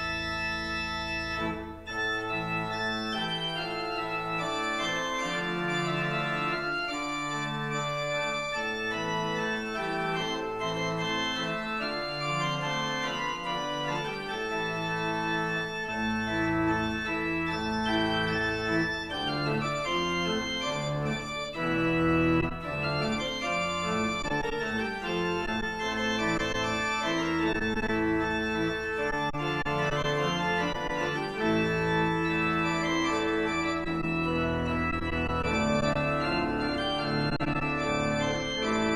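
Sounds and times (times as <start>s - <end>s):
organ chords: 0.0s - 38.9s.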